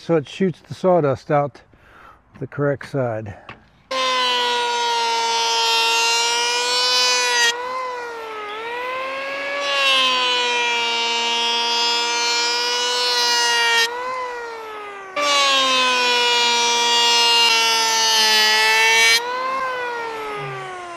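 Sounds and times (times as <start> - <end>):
electric planer whining: 3.9 - 20.9.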